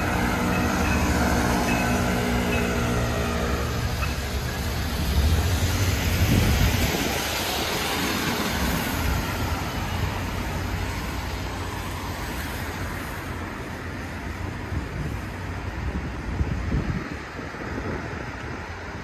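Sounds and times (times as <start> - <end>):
bus engine rumble: 0.0 - 19.0
traffic noise: 0.0 - 19.0
tyre noise on wet road: 0.0 - 19.0.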